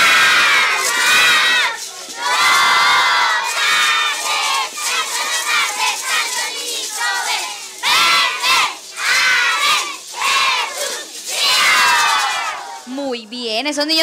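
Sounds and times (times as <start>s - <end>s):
children shouting and cheering: 0.0s - 13.0s.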